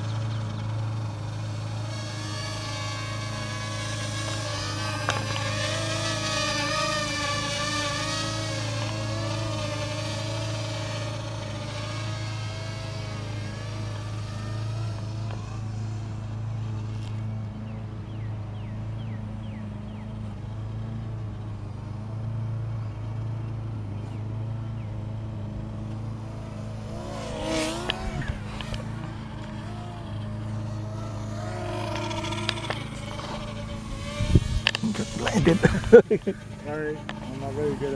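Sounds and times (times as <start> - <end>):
drone rotors whirring: 0.0 - 37.9.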